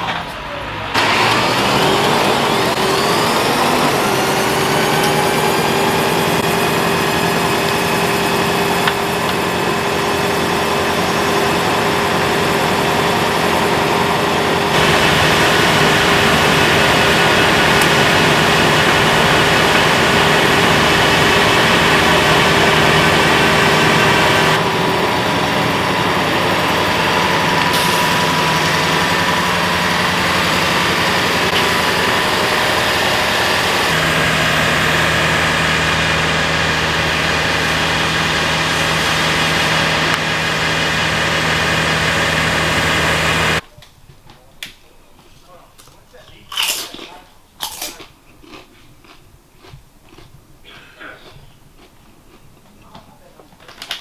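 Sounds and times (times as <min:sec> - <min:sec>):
bus engine running: 0:00.0 - 0:43.6.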